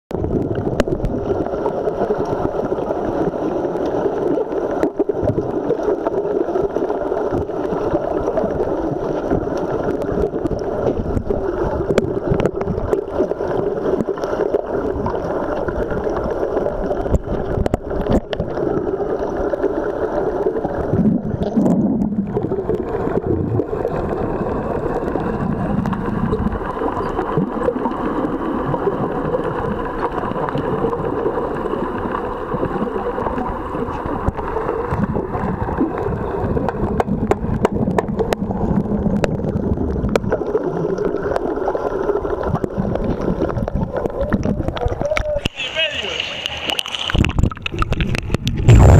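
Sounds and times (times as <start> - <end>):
underwater rushing and bubbles: 0.1 - 48.9.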